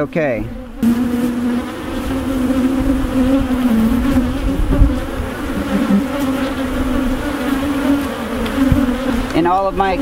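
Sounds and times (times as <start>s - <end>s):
honey bees buzzing loudly: 0.0s - 10.0s.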